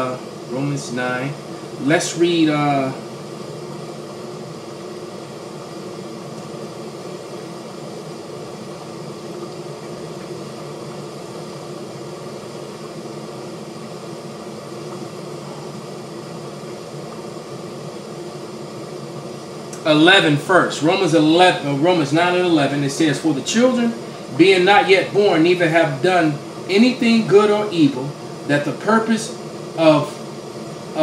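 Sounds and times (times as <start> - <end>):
mechanical hum and hiss: 0.0 - 31.0.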